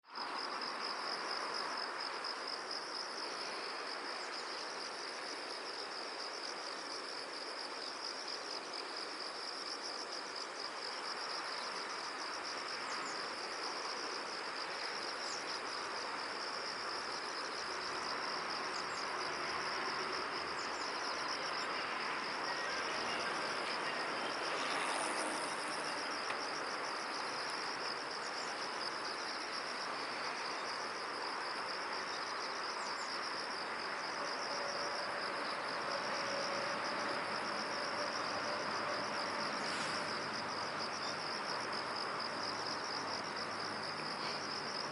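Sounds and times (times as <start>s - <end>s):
crickets chirping: 0.0s - 44.9s
steady background hiss: 0.1s - 44.9s.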